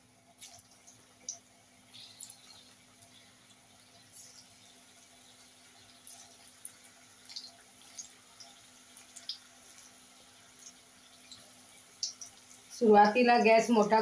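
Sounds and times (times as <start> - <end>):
batter frying in hot oil: 0.0 - 14.0.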